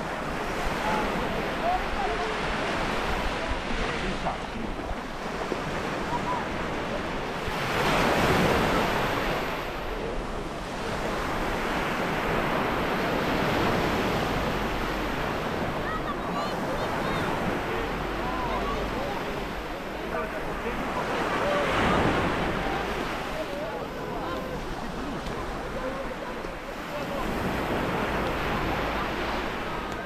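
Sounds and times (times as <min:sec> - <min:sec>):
sea waves on a stony shore: 0:00.0 - 0:30.0.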